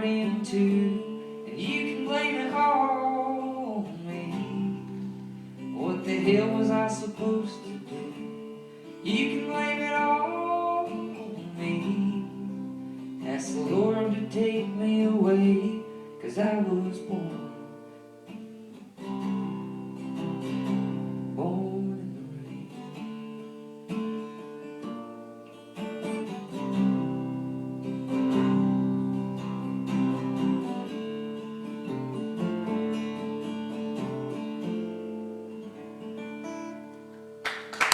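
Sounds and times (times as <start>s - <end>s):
acoustic guitar chords ringing: 0.0s - 37.9s.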